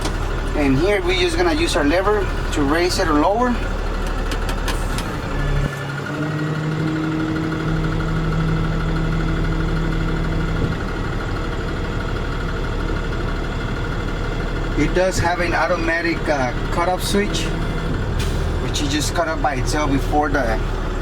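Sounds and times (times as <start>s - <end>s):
diesel engine idling: 0.0s - 21.0s
hydraulic pump hum: 0.0s - 21.0s.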